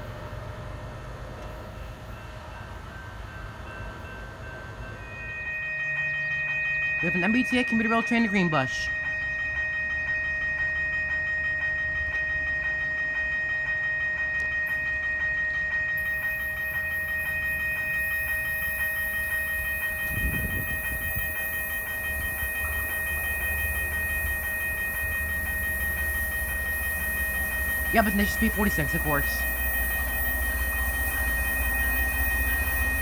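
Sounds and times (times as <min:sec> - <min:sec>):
train low rumble: 0:00.0 - 0:33.0
high-pitched tones: 0:01.7 - 0:33.0.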